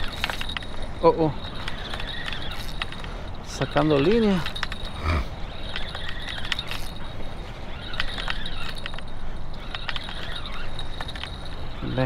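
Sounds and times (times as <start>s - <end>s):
fishing reel clicking: 0.0s - 7.1s, 7.7s - 11.7s.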